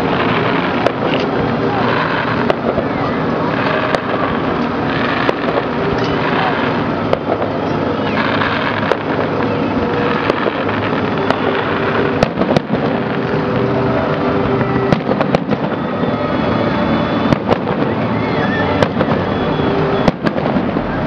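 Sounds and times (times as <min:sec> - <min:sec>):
fireworks bursting with sharp bangs: 0:00.0 - 0:21.0.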